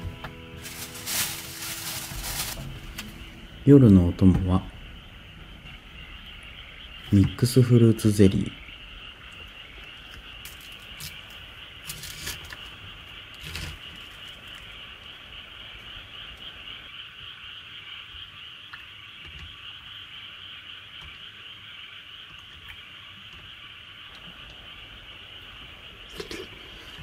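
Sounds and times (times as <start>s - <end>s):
night chorus of calling creatures: 0.8s - 27.0s.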